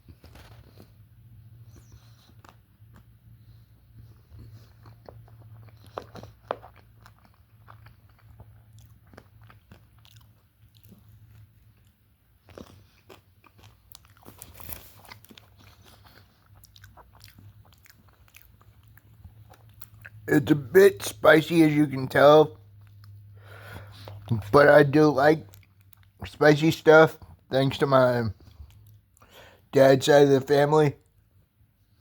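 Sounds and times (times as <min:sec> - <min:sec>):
person chewing food: 0:00.0 - 0:21.1, 0:22.1 - 0:26.3, 0:28.3 - 0:29.7.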